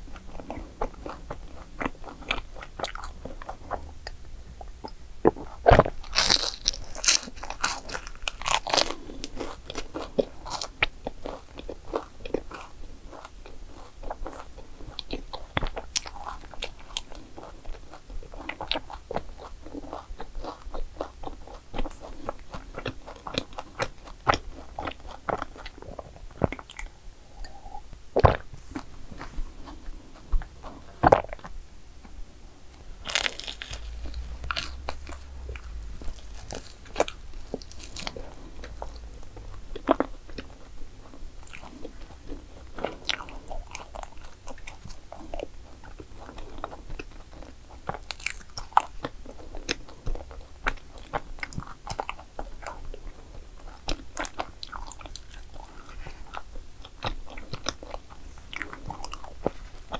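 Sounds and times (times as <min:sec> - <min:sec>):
crunching and chewing: 0:00.0 - 0:31.6, 0:32.7 - 0:59.9.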